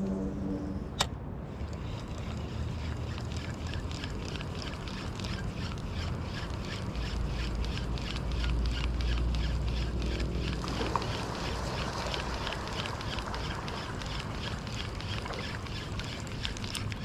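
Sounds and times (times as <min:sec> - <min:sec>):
fishing reel ticking: 0:01.0 - 0:17.0.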